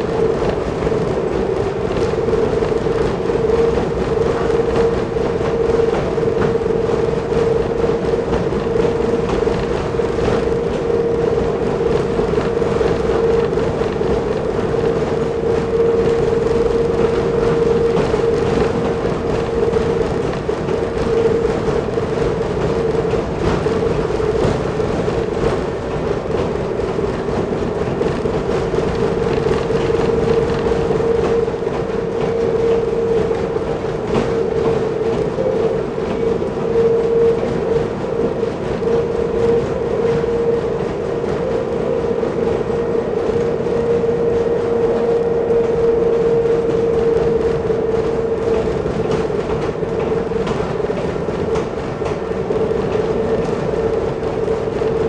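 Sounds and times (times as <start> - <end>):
rail joint clicks: 0.0 - 55.0
railbus engine hum: 0.0 - 55.0
train running noise: 0.0 - 55.0.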